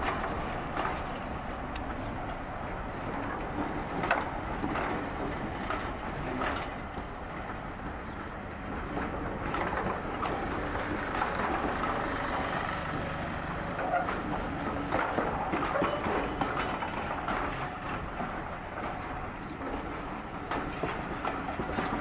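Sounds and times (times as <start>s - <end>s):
train wheels rumbling on track: 0.0s - 22.0s
wheels clicking and knocking: 0.0s - 22.0s.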